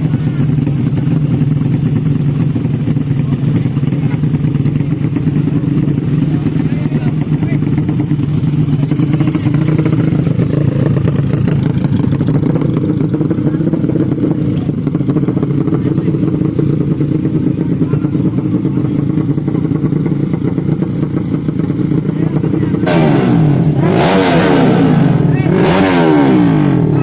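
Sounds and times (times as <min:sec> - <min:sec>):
motorcycle engines running: 0:00.0 - 0:27.0.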